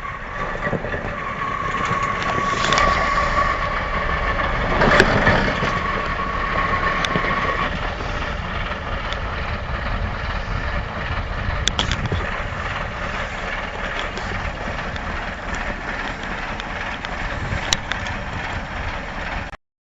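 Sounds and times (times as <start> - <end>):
steady high tone: 0.0 - 19.4
truck engine running: 0.0 - 19.6.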